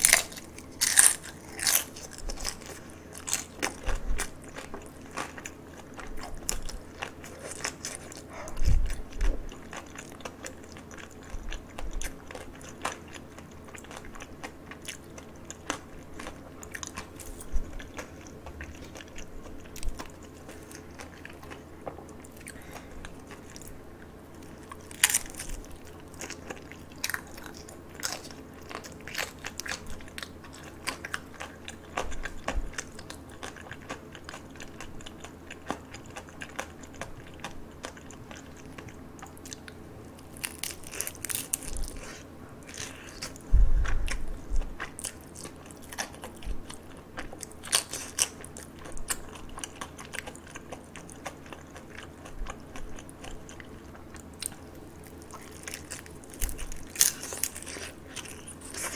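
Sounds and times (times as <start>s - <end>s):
crunchy chewing: 0.0s - 58.9s.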